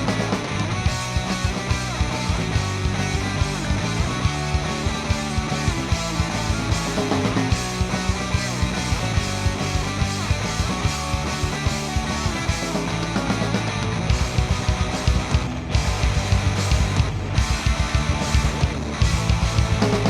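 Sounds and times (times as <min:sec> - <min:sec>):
rock band playing live: 0:00.0 - 0:20.0.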